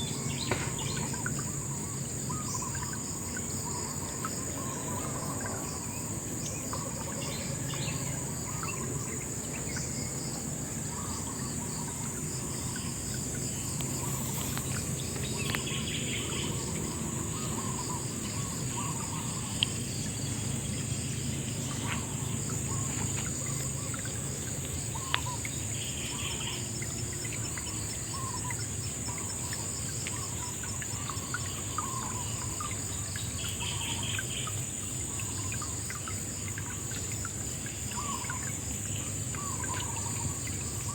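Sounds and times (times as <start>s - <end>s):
bird calls and chirps: 0.0s - 10.2s, 10.9s - 37.0s, 37.6s - 40.9s
insect drone: 0.0s - 40.9s.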